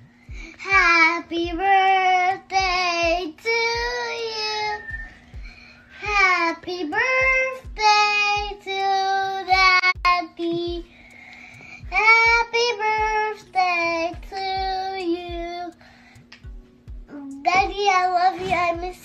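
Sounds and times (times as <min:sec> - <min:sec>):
faint steady hum: 0:00.0 - 0:19.0
girl singing: 0:00.3 - 0:11.0, 0:11.7 - 0:15.9, 0:17.1 - 0:19.0.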